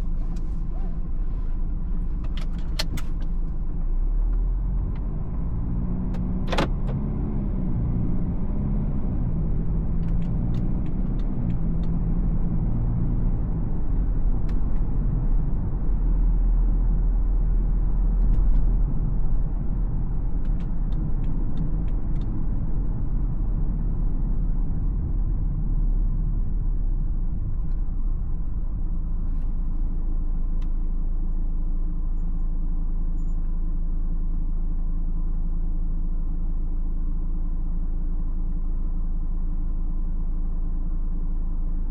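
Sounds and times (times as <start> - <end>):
diesel engine rumble while driving: 0.0 - 41.9.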